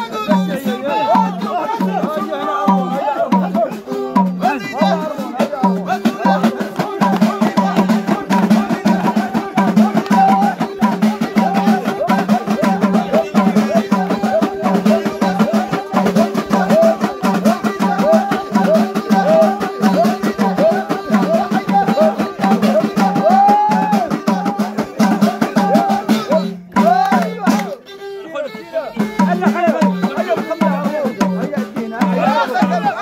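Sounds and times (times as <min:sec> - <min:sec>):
frame drums and hand percussion: 0:00.0 - 0:33.0
ornamented folk melody: 0:00.0 - 0:33.0.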